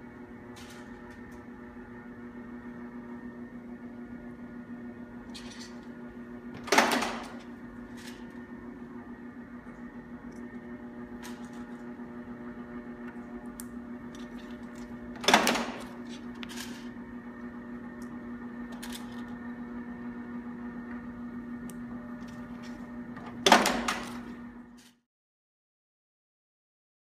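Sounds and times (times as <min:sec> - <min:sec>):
machine humming: 0:00.0 - 0:24.8.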